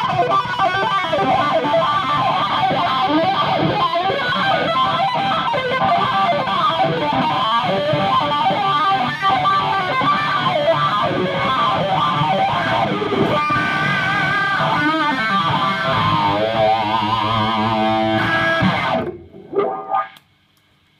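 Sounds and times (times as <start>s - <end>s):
electric guitar with wah pedal: 0.0s - 20.2s.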